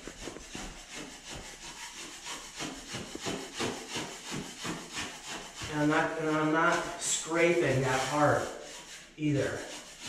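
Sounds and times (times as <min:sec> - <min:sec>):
metal blade scraping drywall ceiling: 0:00.0 - 0:10.0.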